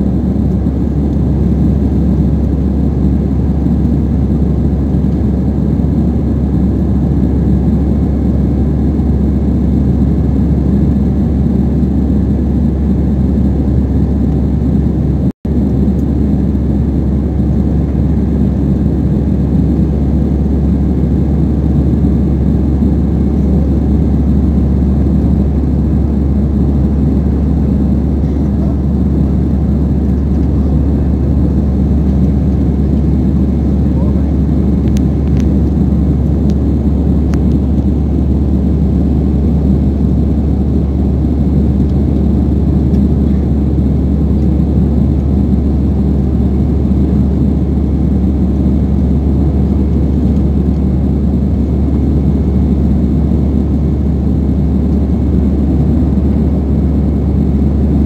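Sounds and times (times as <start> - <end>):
jet cabin engine noise: 0.0 - 58.0.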